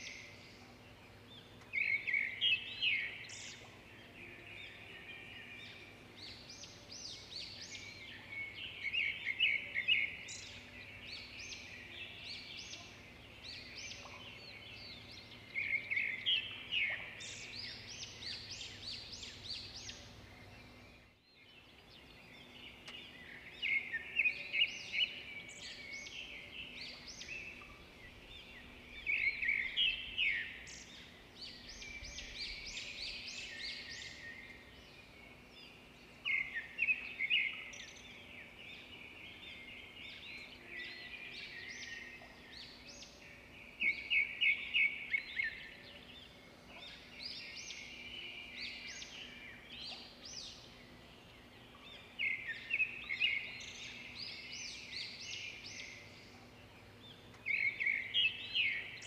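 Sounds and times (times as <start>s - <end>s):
birds chirping: 0.0s - 59.0s
faint steady hum: 0.0s - 59.0s.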